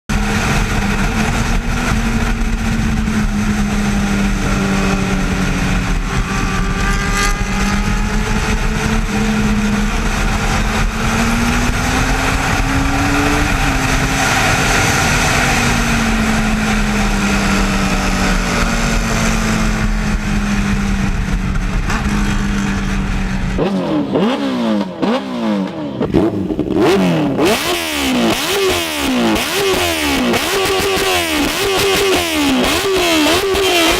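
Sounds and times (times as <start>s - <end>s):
motorcycle engine: 0.0s - 33.9s
sharp engine revs: 0.3s - 20.8s, 23.5s - 33.9s.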